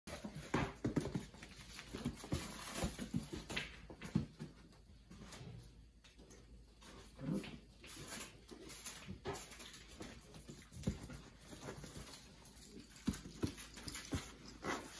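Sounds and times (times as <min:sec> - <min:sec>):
puppy paws pattering on floor: 0:00.1 - 0:14.9.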